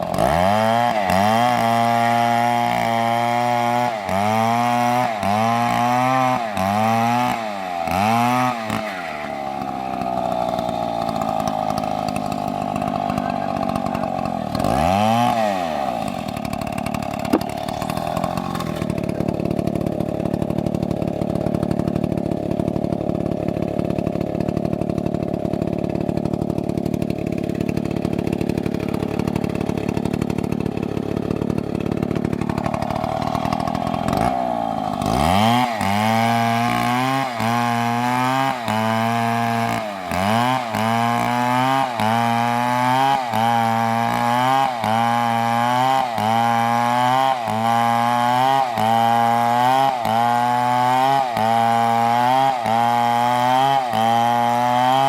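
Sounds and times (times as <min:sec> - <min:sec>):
chainsaw running and revving: 0:00.0 - 0:55.0.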